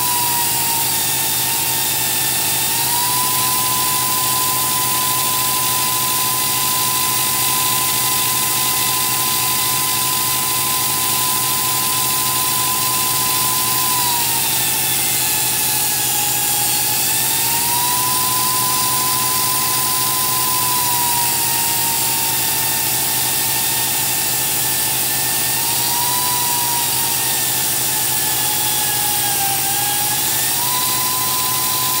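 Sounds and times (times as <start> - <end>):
rotary grinder whining: 0.0 - 32.0.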